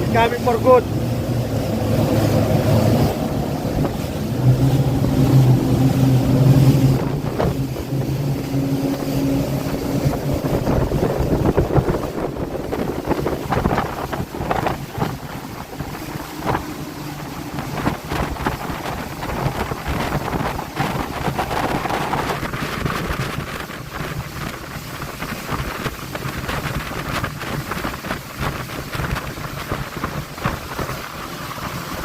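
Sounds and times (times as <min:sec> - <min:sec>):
motorboat engine drone: 0:00.0 - 0:32.0
water rushing: 0:00.0 - 0:32.0
wind buffeting microphone: 0:00.0 - 0:32.0.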